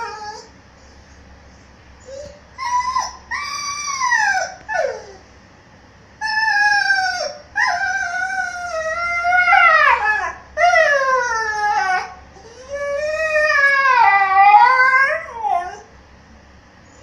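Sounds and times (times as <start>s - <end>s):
puppy howling and whining: 0.0s - 1.0s, 2.0s - 5.3s, 6.2s - 15.9s.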